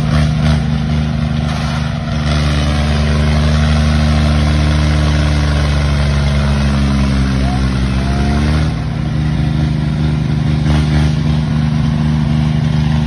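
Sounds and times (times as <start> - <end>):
tractor diesel engines under heavy load: 0.0 - 13.0.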